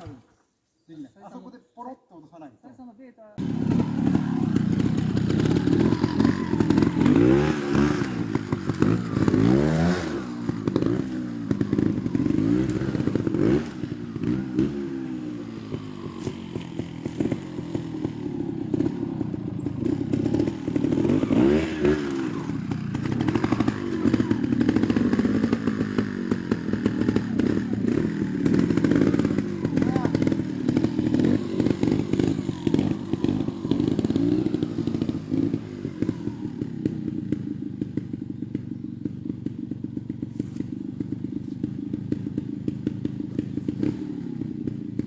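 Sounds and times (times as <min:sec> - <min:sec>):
motorcycle engine revving: 0:03.4 - 0:45.0.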